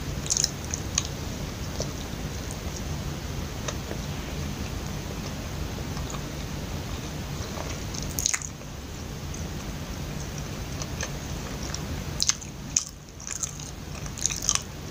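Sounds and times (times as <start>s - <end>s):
steady low hum: 0.0s - 14.9s
chewing sticky food: 0.2s - 2.9s, 3.6s - 14.9s.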